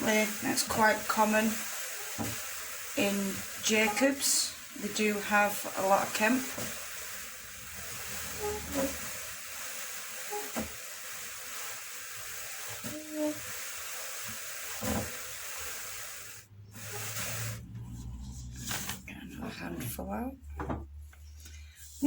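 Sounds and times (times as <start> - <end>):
drum carder hissing: 0.0 - 19.0.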